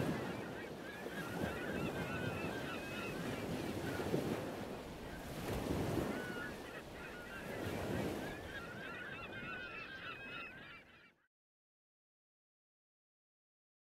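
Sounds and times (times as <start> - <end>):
birds honking and calling: 0.0 - 11.2.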